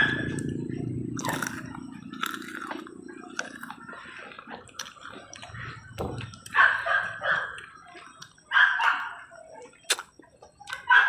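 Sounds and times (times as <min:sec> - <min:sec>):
chewing juicy fruit: 0:00.0 - 0:11.0.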